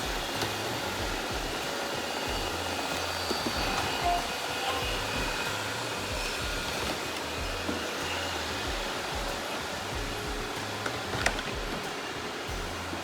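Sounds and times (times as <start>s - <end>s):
robot vacuum suction hiss: 0.0s - 13.0s.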